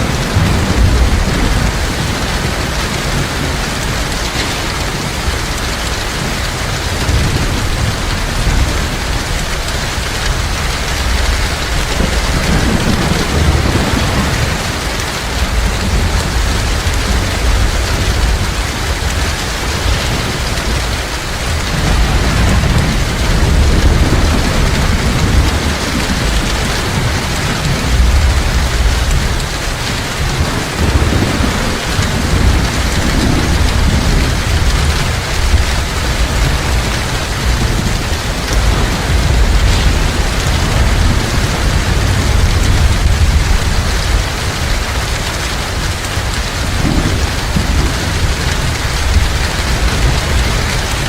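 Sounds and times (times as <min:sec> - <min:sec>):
distant thunder rumble: 0:00.0 - 0:51.0
heavy rain falling: 0:00.0 - 0:51.0.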